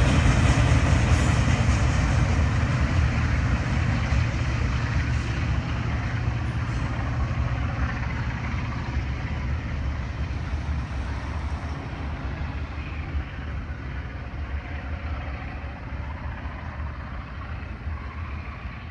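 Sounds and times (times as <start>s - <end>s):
freight train wheels rumbling: 0.0s - 18.9s.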